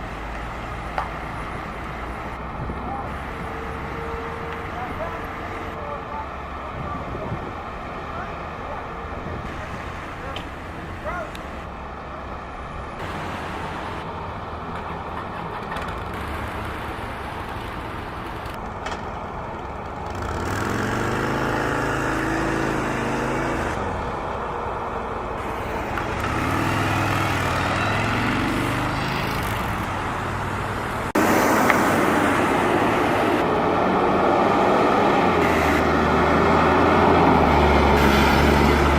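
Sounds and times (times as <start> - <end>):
vehicles passing: 0.0 - 38.9.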